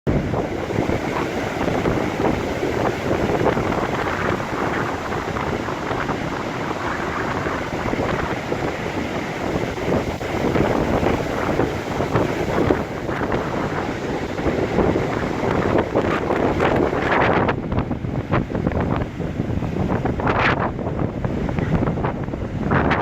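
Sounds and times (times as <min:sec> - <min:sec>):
sea surf washing on shore: 0:00.1 - 0:23.0
wind buffeting microphone: 0:00.1 - 0:23.0.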